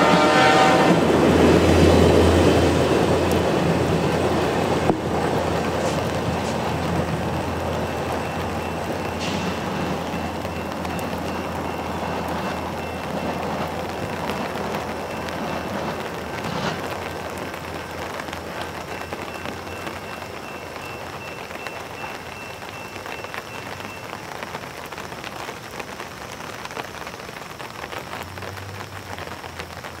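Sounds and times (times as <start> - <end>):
passenger train rumble: 0.0 - 26.1
steady rain falling: 0.0 - 30.0.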